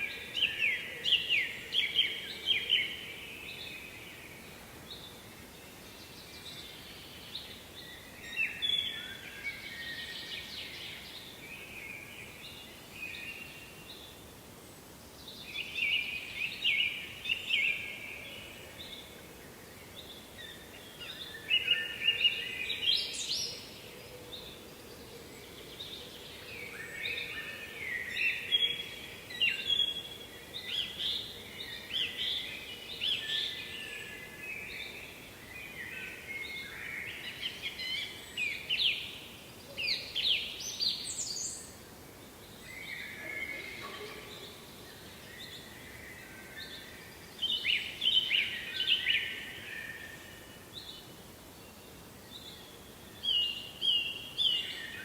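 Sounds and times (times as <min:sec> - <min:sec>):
faint background hiss: 0:00.0 - 0:55.0
songbirds chirping and trilling: 0:00.0 - 0:55.0.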